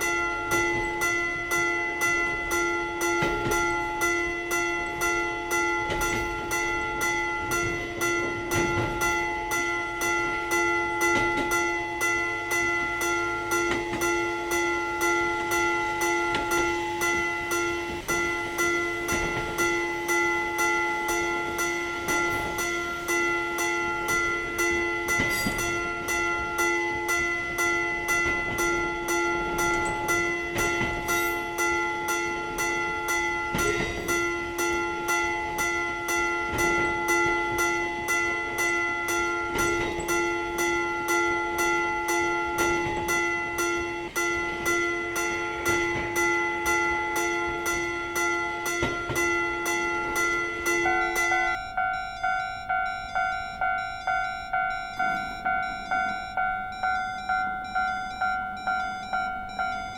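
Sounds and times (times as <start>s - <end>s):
level crossing warning bell: 0.0s - 59.9s.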